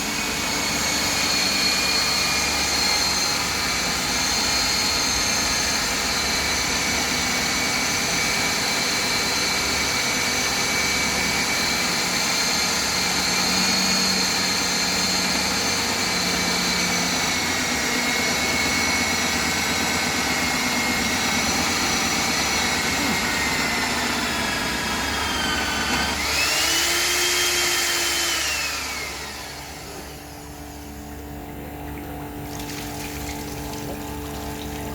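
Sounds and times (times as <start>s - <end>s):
core drill motor whine: 0.0s - 32.4s.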